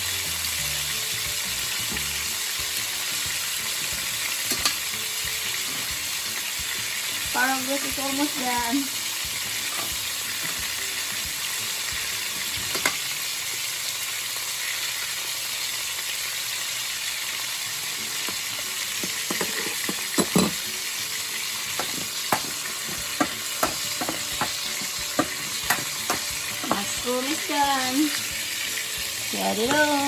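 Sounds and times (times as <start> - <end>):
food sizzling in pans: 0.0 - 30.0.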